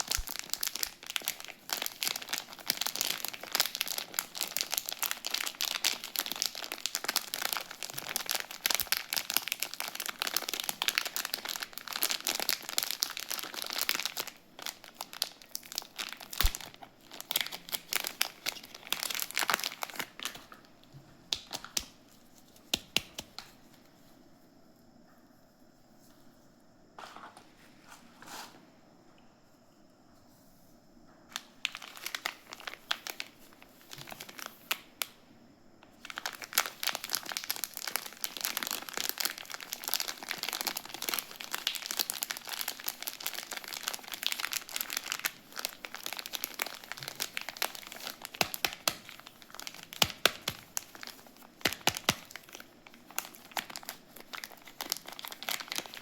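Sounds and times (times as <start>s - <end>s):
soap wrapper crinkling and tearing: 0.0s - 20.7s, 21.3s - 23.6s, 31.3s - 35.2s, 35.9s - 56.0s.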